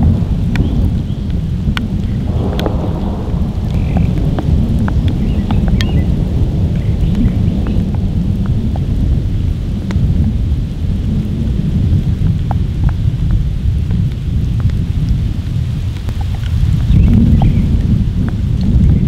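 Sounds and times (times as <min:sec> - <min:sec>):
light rain: 0:00.0 - 0:19.0
thunder rumbling: 0:00.0 - 0:19.0.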